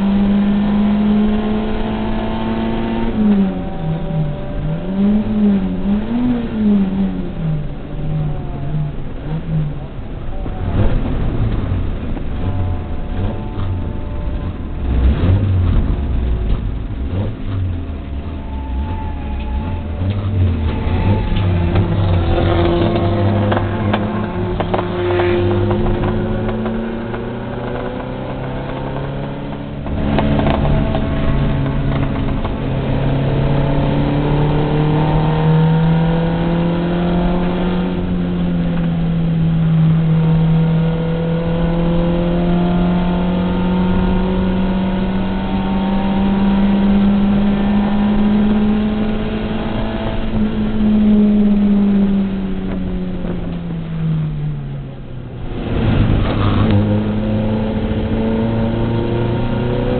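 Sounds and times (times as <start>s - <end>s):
race car engine: 0.0s - 59.9s.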